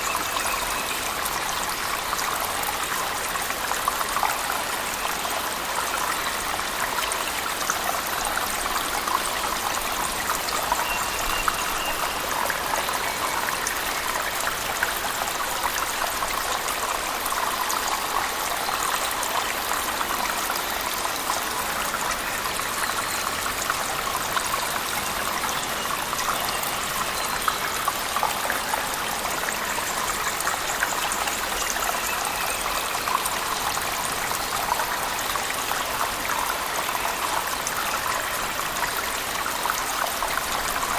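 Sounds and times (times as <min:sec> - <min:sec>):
heavy rain patter and drips: 0:00.0 - 0:40.9.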